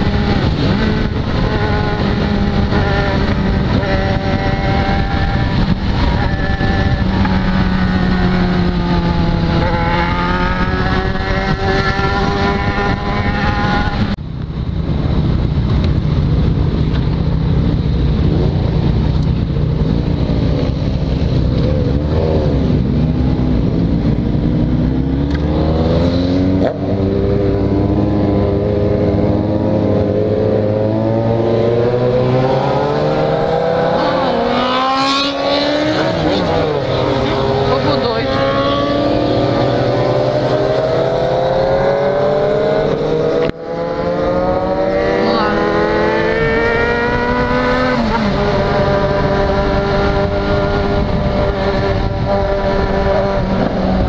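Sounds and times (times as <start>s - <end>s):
motorcycle accelerating through gears: 0.0s - 54.0s
motorcycle engine cruising: 0.0s - 54.0s
other motorcycles running: 0.0s - 54.0s
wind rush: 0.0s - 54.0s.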